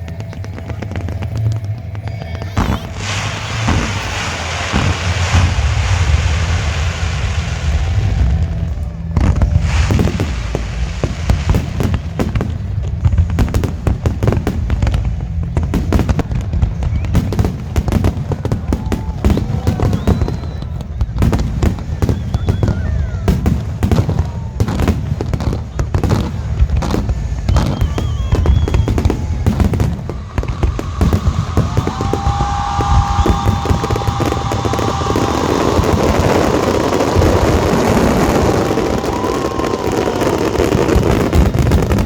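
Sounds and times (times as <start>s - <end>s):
dense crackling hiss: 0.0s - 42.0s
fireworks bangs and crackles: 0.0s - 42.0s
low rumble: 0.0s - 42.0s.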